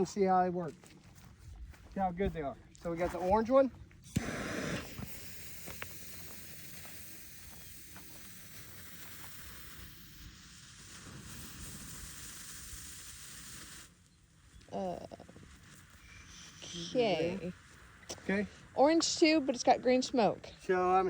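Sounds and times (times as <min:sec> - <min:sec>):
smoke bomb hissing: 0:04.0 - 0:21.0.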